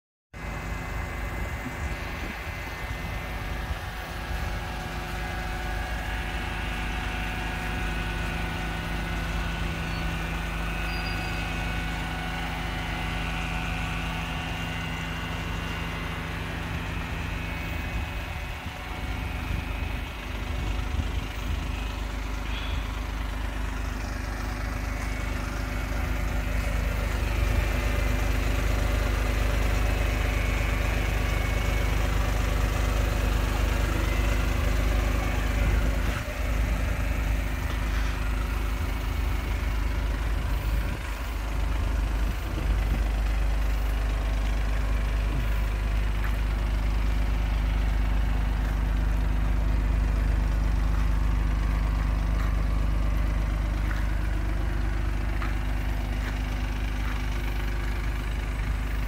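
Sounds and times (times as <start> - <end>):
small car engine idling: 0.3 - 59.0.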